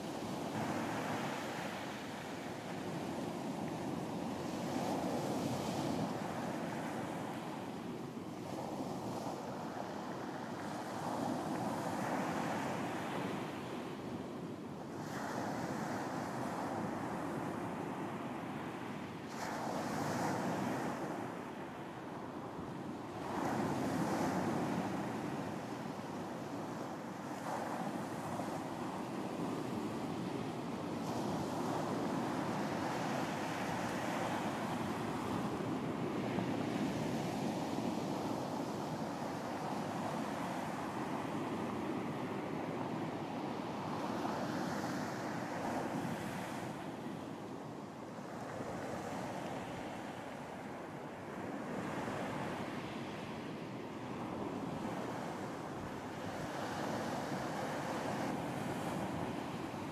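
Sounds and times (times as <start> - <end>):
wind: 0.0 - 59.9.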